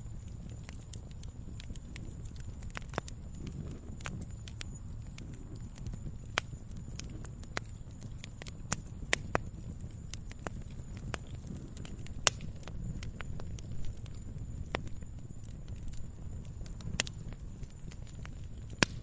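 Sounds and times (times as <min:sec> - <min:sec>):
burning wood crackling and popping: 0:00.0 - 0:19.0
low rumble of flame: 0:00.0 - 0:19.0.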